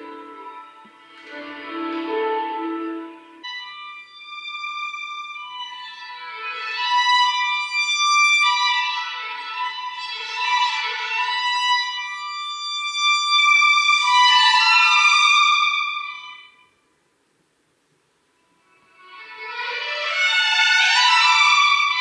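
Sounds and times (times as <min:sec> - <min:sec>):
slow violin melody: 0:00.0 - 0:16.8, 0:18.4 - 0:22.0.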